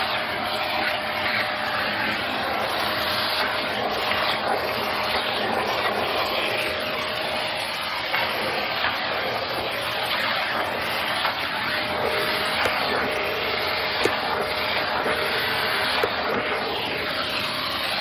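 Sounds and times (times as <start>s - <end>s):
vacuum cleaner running on carpet: 0.0s - 18.0s.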